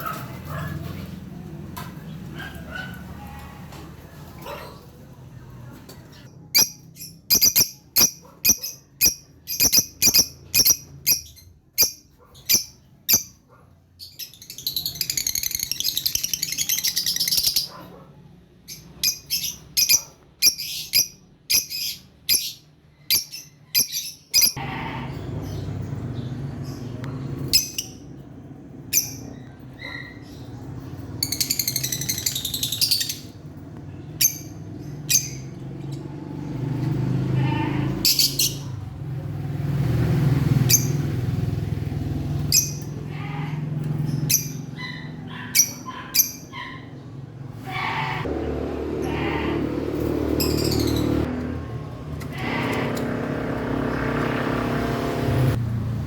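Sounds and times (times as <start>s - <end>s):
birds chattering: 0.0s - 39.0s, 40.6s - 54.6s
birds chirping: 0.0s - 55.6s.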